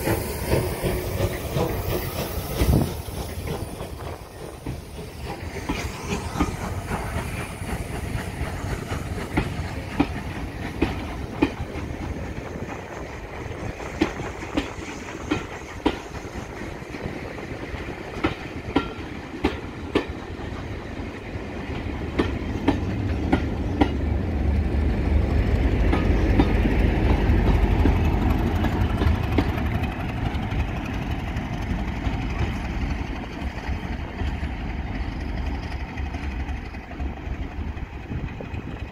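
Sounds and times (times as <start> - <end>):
diesel locomotive engine rumble: 0.0 - 38.9
train wheels clicking over rail joints: 0.0 - 38.9.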